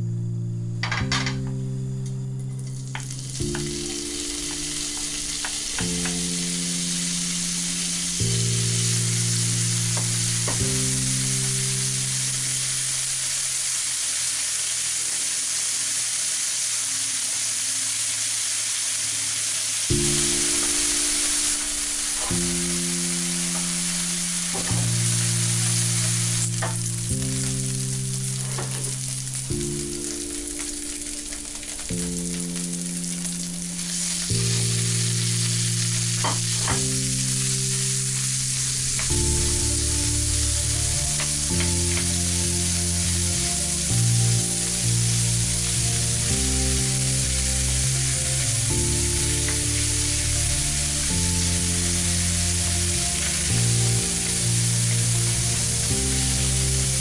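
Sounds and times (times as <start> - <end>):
background music: 0.0 - 16.7, 19.9 - 57.0
meat sizzling in a frying pan: 2.6 - 57.0.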